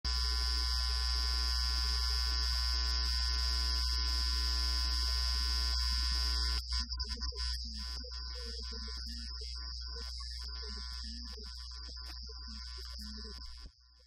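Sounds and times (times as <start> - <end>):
electrical hum with high whine: 0.0 - 14.0.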